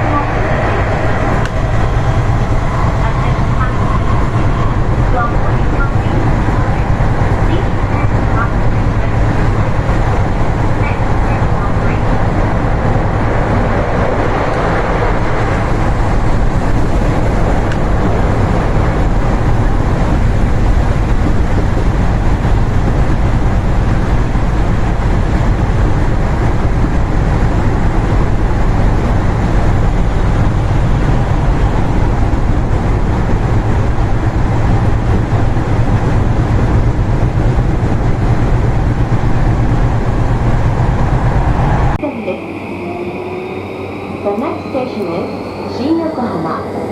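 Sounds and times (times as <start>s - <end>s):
low hum: 0.0s - 46.9s
train running rumble: 0.0s - 46.9s.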